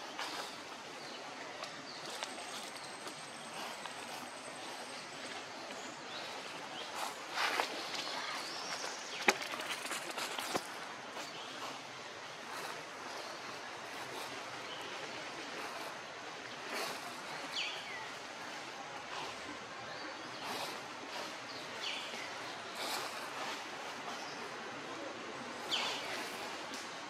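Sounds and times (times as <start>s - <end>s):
forest background hiss: 0.0s - 27.0s.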